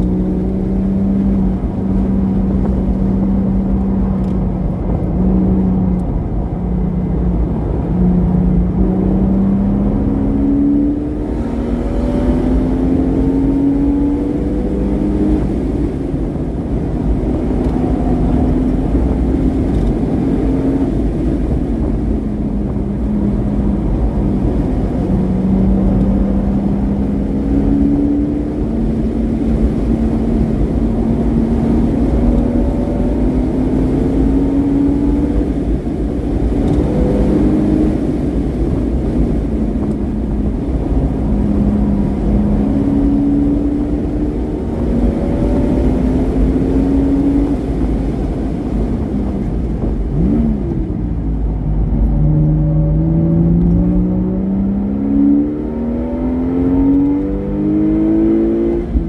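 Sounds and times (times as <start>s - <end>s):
sports car engine revving: 0.0s - 59.0s.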